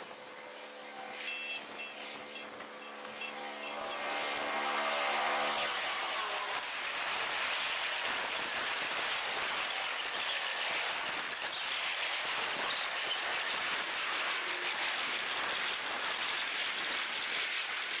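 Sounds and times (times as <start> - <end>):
sped-up train wheels rushing hiss: 0.0 - 18.0.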